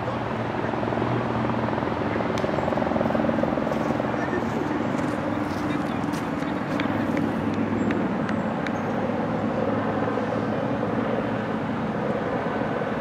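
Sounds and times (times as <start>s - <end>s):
distant engine rumble: 0.0s - 13.0s.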